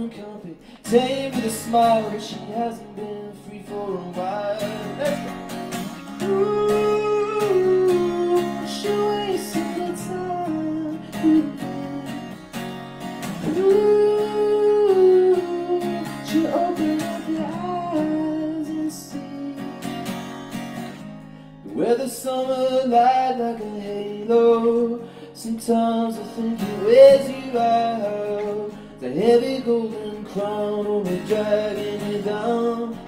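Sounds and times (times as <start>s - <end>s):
man singing: 0.0s - 12.5s, 13.2s - 20.1s, 21.6s - 33.0s
acoustic guitar strumming: 0.0s - 33.0s.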